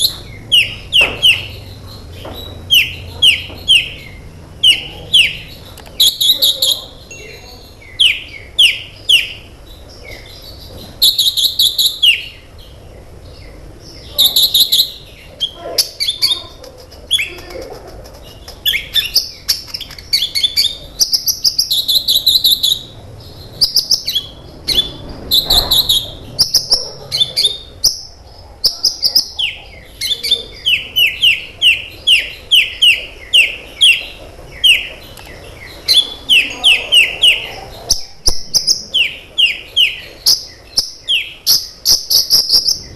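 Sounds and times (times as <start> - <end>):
sunbird singing high chirps: 0.0 - 17.5, 18.3 - 42.9.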